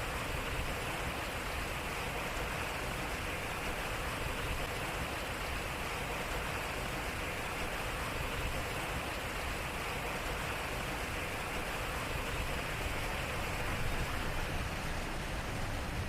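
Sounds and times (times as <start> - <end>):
water splashing at water wheel: 0.0 - 16.0.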